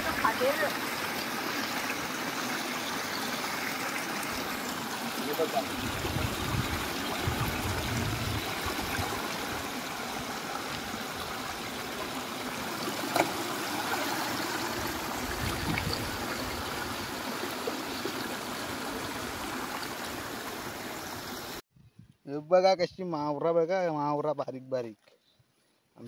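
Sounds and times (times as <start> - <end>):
water flowing: 0.0 - 21.6.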